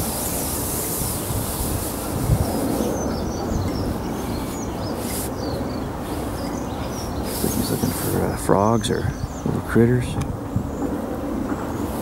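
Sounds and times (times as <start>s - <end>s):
small birds chirping: 0.0s - 12.0s
wind rumble on microphone: 0.0s - 12.0s.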